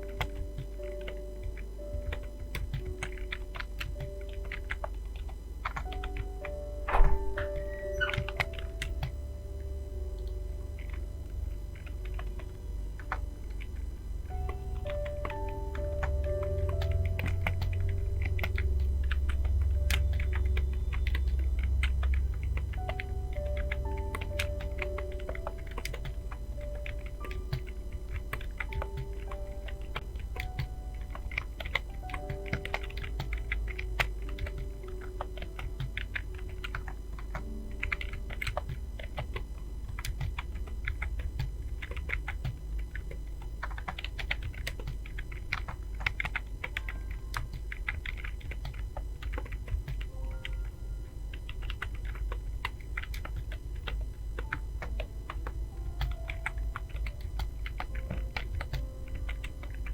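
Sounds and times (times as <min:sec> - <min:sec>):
fast typing on keyboard: 0:00.0 - 0:59.9
soft background music: 0:00.0 - 0:59.9.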